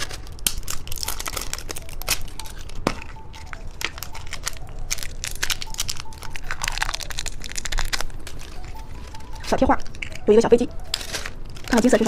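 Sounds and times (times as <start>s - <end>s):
candy wrapper crinkling and tearing: 0.0s - 12.0s.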